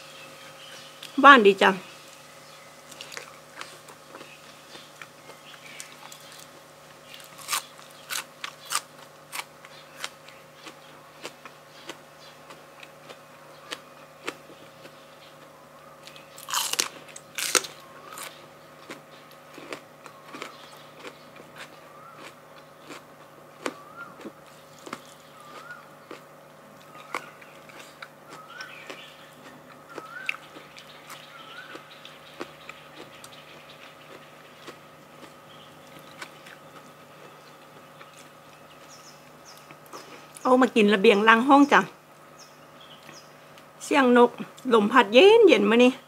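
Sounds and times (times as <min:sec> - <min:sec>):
crunching food: 0:02.8 - 0:40.5
quiet chewing: 0:02.8 - 0:40.5.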